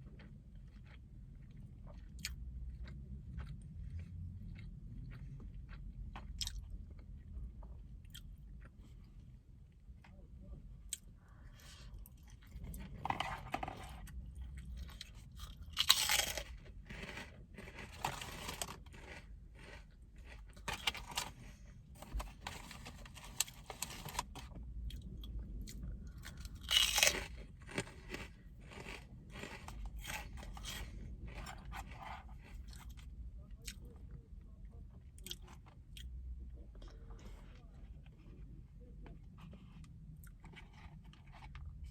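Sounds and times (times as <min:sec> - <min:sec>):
person chewing crunchy food: 0:00.0 - 0:09.3, 0:10.9 - 0:34.1, 0:35.1 - 0:38.4, 0:39.1 - 0:41.9.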